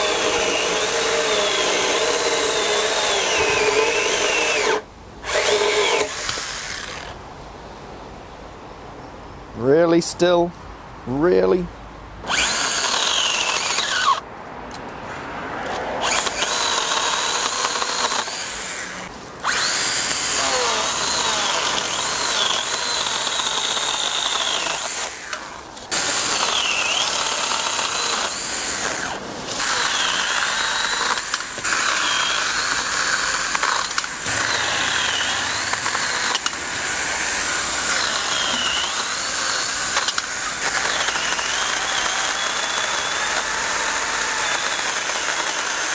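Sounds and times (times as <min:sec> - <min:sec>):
battery saw cutting branch: 0:00.0 - 0:07.2, 0:12.2 - 0:14.2, 0:16.0 - 0:45.9.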